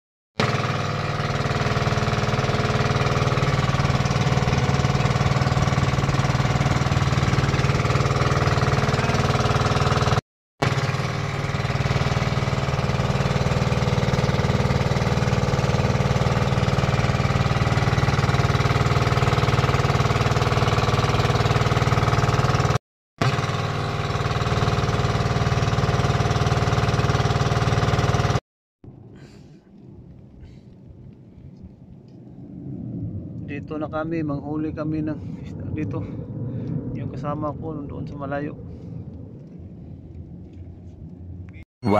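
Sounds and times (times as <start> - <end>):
boat engine droning: 0.4 - 30.7, 35.0 - 41.9.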